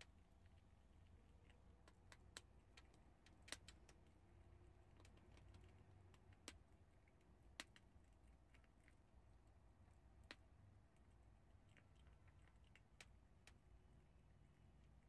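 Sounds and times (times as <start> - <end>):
animal crunching chickpeas: 0.0 - 15.0
low steady hum: 0.0 - 15.0.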